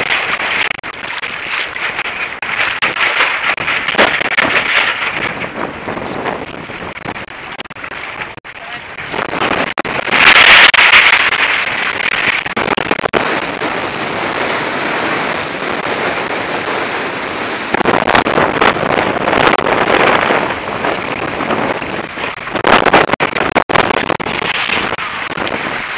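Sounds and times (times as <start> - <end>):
water rushing and splashing: 0.0 - 25.9
wind buffeting microphone: 0.0 - 25.9.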